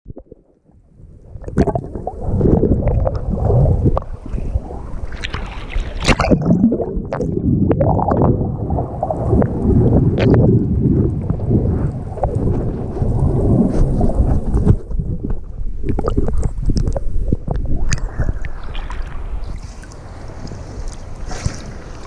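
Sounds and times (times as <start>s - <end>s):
rushing gurgling water: 0.1s - 22.0s
wind buffeting microphone: 1.0s - 22.0s.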